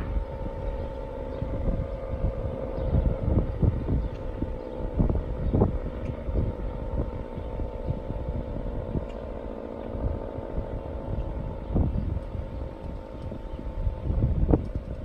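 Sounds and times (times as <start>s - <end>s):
warning siren steady tone: 0.0s - 15.0s
wind buffeting microphone: 0.0s - 15.0s.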